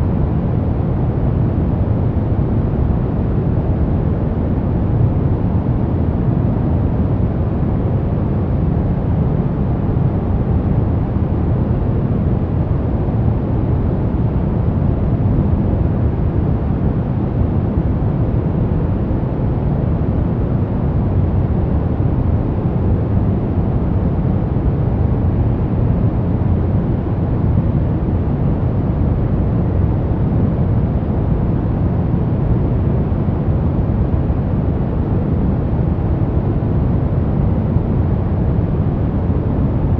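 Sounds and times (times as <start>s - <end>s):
deep rumbling white noise: 0.0s - 39.9s.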